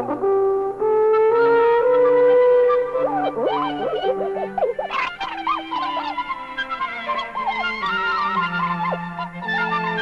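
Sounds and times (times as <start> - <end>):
wavering woodwind notes: 1.2 - 10.0.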